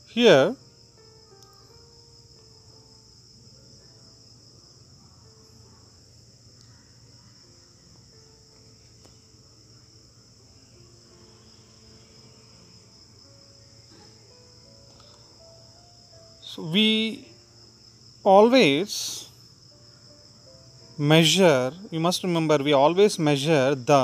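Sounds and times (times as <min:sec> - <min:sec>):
insect trill: 0:00.0 - 0:24.0.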